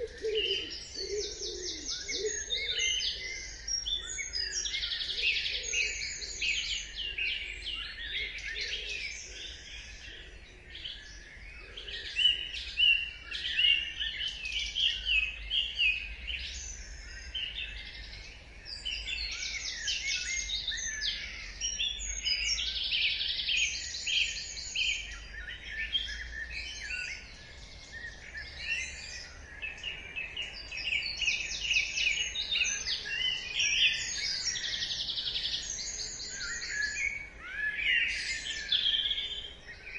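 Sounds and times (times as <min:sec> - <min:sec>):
many birds singing: 0:00.0 - 0:39.9.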